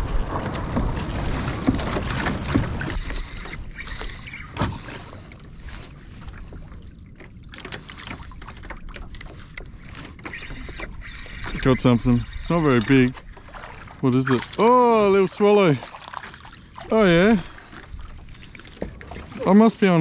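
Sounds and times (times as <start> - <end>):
small knocks against hull: 0.0 - 14.6, 17.6 - 19.4
sea water sloshing: 0.0 - 20.0.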